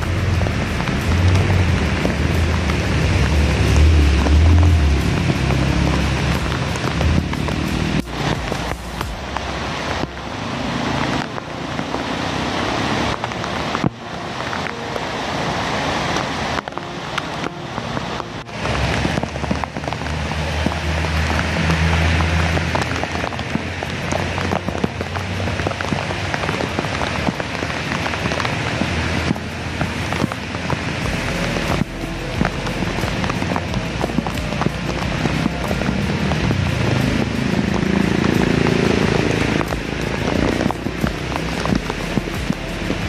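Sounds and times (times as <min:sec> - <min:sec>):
heavy rain: 0:00.0 - 0:43.0
vehicle engine passing: 0:00.0 - 0:43.0.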